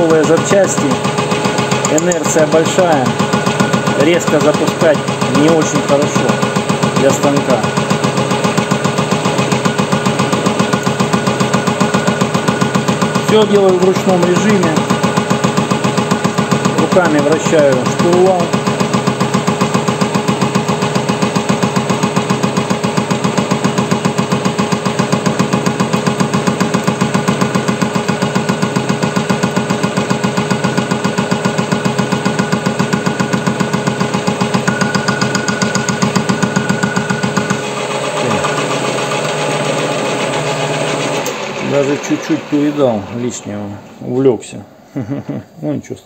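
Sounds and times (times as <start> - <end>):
lathe cutting with pulsing noise: 0.0 - 44.2
lathe running smoothly: 0.0 - 44.2.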